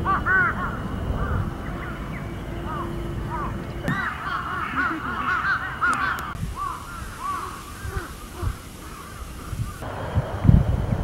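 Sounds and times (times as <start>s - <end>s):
cicadas calling: 0.0s - 10.6s.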